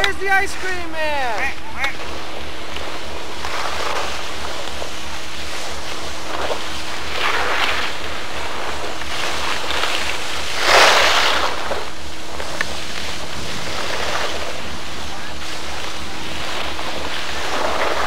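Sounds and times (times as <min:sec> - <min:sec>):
skis swishing across snow: 0:00.0 - 0:18.0
steady low hum: 0:00.0 - 0:18.0.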